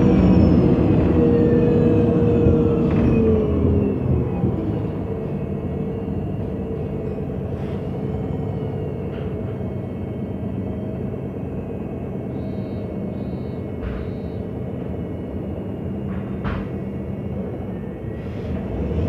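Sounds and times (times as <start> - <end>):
bus engine droning: 0.0 - 19.0.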